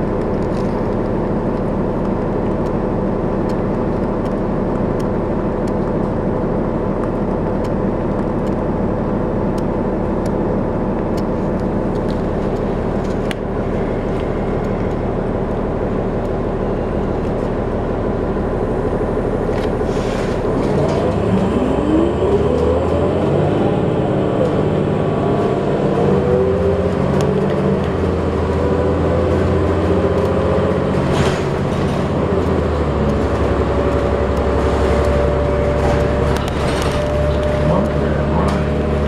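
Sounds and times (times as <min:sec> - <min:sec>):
bus diesel engine accelerating: 0:00.0 - 0:39.0
drivetrain whine: 0:00.0 - 0:39.0
road noise: 0:00.0 - 0:39.0.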